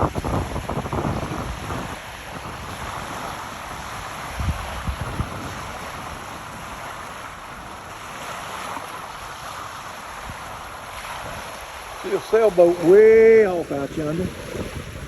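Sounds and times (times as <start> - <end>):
wind and surf rushing: 0.0 - 15.0
wind buffeting microphone: 0.0 - 15.0.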